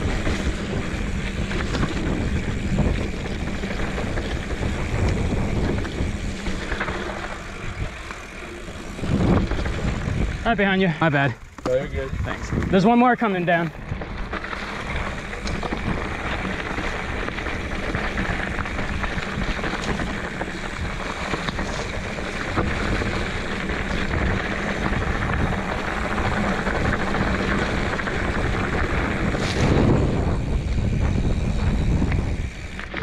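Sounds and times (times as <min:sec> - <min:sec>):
wind on microphone: 0:00.0 - 0:08.0, 0:08.6 - 0:10.7, 0:11.7 - 0:13.0, 0:13.8 - 0:33.0
tyres rumbling on dirt: 0:00.0 - 0:33.0.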